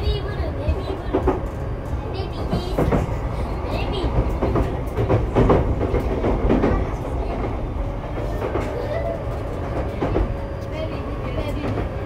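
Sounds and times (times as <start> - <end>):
train rumble: 0.0 - 12.0
wheels clacking over rail joints: 0.0 - 12.0.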